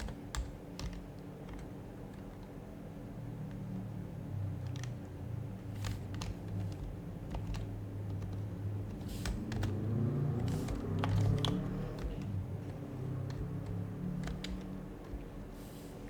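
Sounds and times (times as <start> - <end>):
soft keyboard keystrokes: 0.0 - 16.0.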